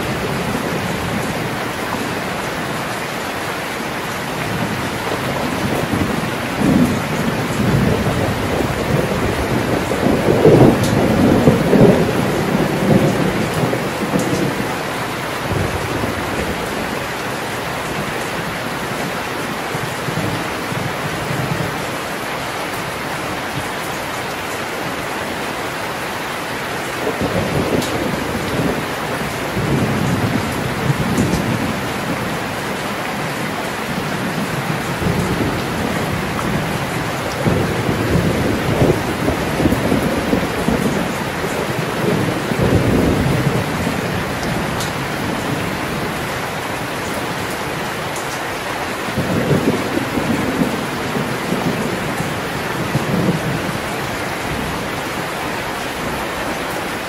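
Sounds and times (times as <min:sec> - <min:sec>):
heavy rain pouring: 0:00.0 - 0:57.0
low rolling thunder: 0:04.3 - 0:22.0, 0:26.9 - 0:48.3, 0:49.0 - 0:56.6.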